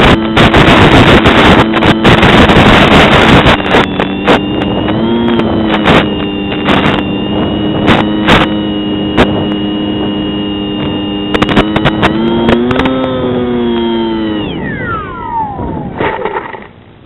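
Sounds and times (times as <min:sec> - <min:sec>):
electric motor whining: 0:00.0 - 0:16.8
radio interference crackles: 0:00.0 - 0:16.9
model plane landing in grass: 0:00.0 - 0:17.0.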